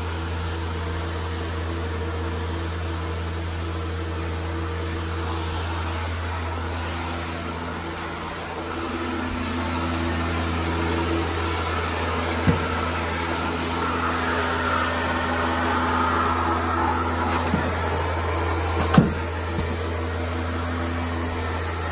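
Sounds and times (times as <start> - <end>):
carpet cleaner droning: 0.0 - 21.9.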